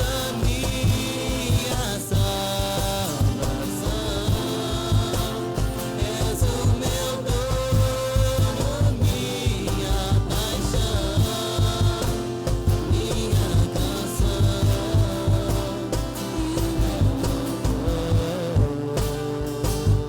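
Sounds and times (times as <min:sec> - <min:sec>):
drum and bass beat: 0:00.0 - 0:20.0
worship band playing: 0:00.0 - 0:20.0.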